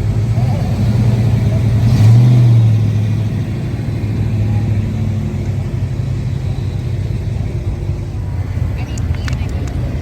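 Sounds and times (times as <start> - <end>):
car engine drone: 0.0 - 10.0
road rumble: 0.0 - 10.0.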